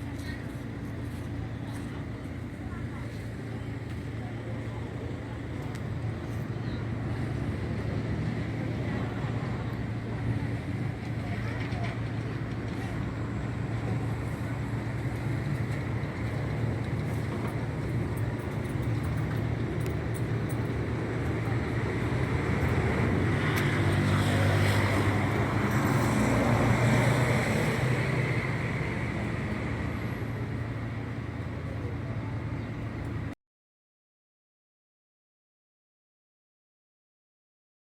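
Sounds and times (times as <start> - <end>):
vehicle engine hum: 0.0 - 33.4.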